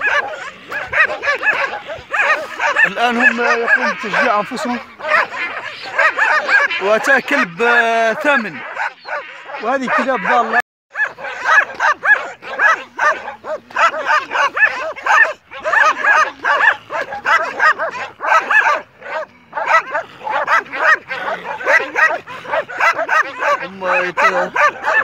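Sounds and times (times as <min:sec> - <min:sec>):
pack of dogs barking: 0:00.0 - 0:25.0.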